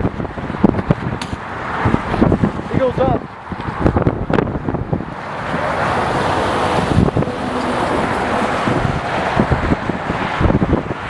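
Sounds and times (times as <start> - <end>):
road traffic passing: 0.0 - 11.0
wind buffeting microphone: 0.0 - 11.0.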